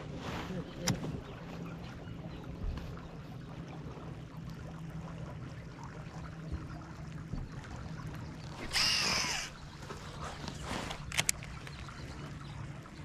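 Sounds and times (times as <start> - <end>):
water trickling: 1.2 - 13.0.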